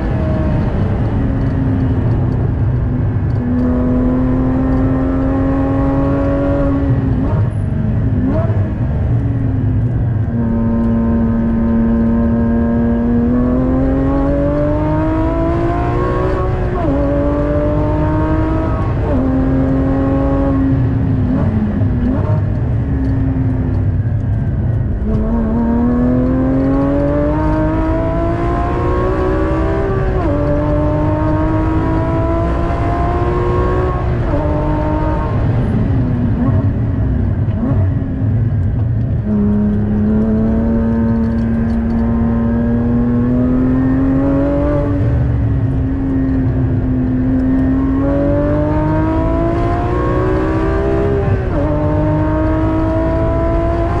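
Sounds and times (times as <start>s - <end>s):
car engine revving through gears: 0.0s - 54.0s
road and tyre rumble: 0.0s - 54.0s.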